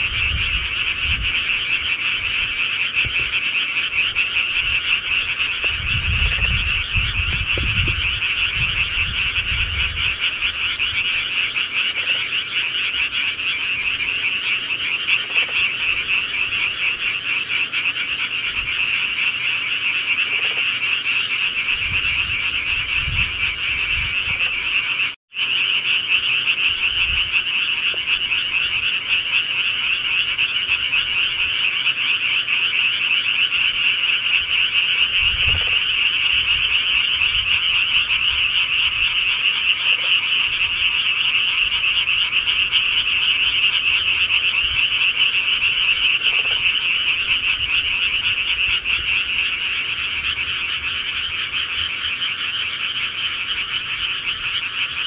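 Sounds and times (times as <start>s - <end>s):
frogs croaking chorus: 0.0s - 55.0s.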